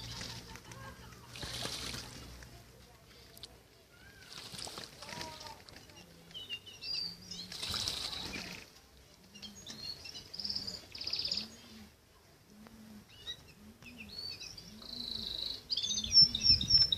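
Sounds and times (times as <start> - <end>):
birds chirping: 0.0 - 11.9, 12.6 - 16.9.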